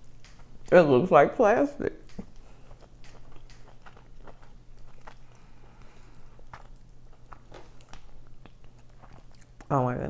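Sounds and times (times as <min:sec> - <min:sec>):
person chewing food: 0:00.0 - 0:00.7, 0:02.0 - 0:09.7.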